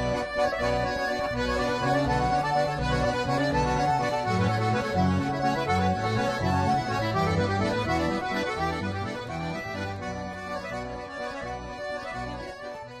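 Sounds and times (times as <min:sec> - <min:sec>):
accordion music: 0:00.0 - 0:13.0.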